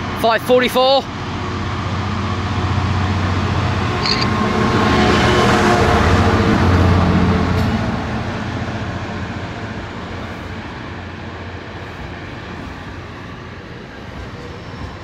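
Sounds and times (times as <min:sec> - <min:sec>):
diesel locomotive engine: 0:00.0 - 0:15.0.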